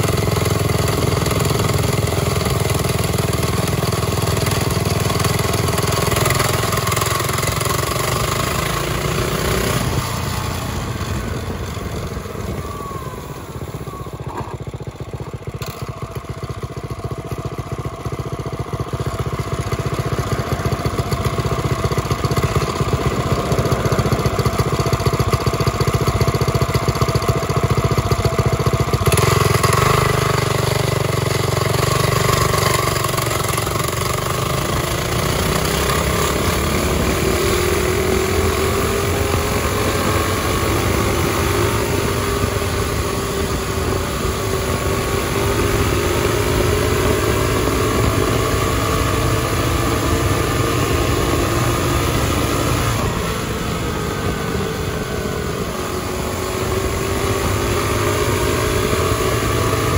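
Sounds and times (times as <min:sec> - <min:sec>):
small motorbike engine revving: 0:00.0 - 0:59.9.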